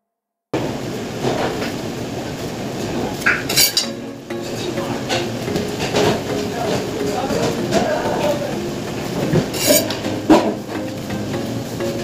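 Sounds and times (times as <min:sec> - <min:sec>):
kitchen background noise: 0:00.6 - 0:12.0.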